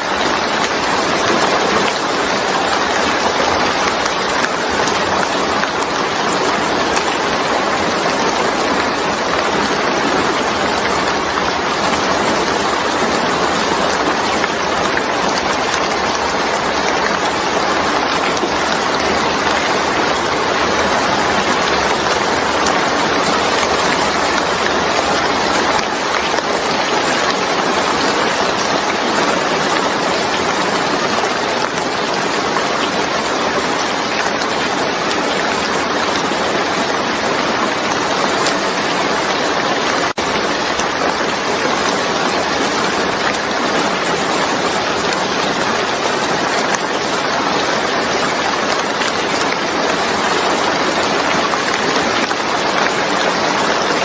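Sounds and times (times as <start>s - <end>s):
heavy rainfall hiss: 0.0s - 54.0s.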